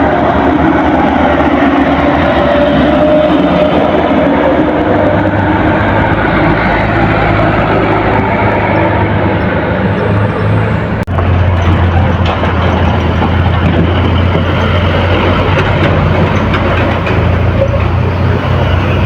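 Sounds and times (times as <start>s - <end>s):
diesel engines droning: 0.0s - 19.0s
traffic noise: 0.0s - 19.0s.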